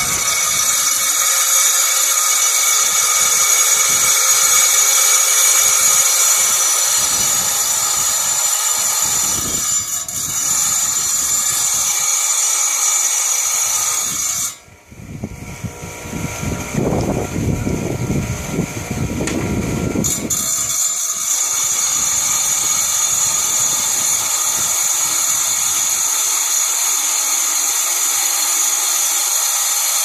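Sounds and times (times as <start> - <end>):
tile saw whining: 0.0 - 30.0.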